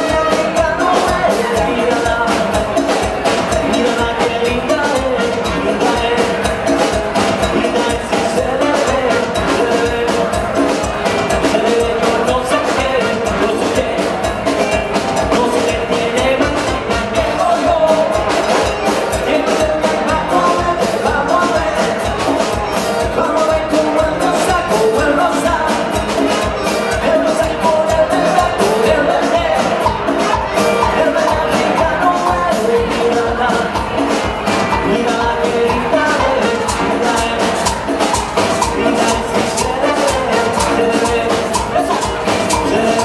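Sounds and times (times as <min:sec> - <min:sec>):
congas: 0:00.0 - 0:43.0
trombone: 0:00.0 - 0:43.0.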